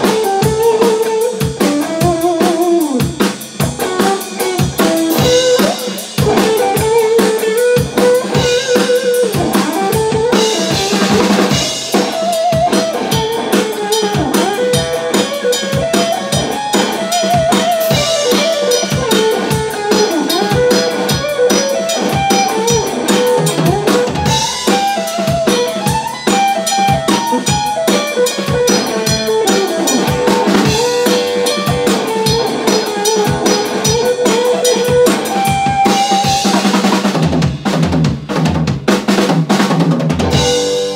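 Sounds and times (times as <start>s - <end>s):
electric guitar lead with bends: 0.0s - 37.1s, 40.2s - 40.9s
drum kit steady beat: 0.0s - 40.9s.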